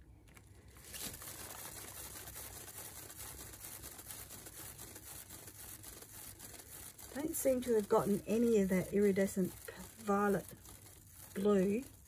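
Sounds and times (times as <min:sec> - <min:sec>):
spinning turntable flinging paint: 0:00.6 - 0:12.0.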